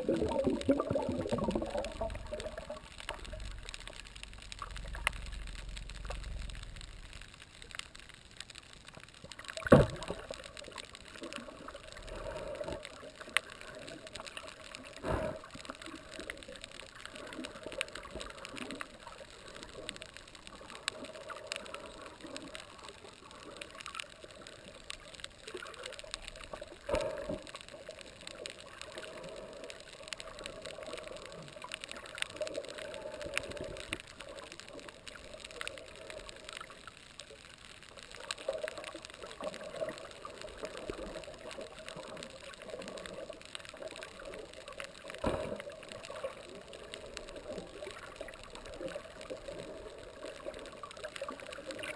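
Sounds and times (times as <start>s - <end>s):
snapping shrimp crackle: 0.0s - 51.9s
underwater rush of water: 0.0s - 51.9s.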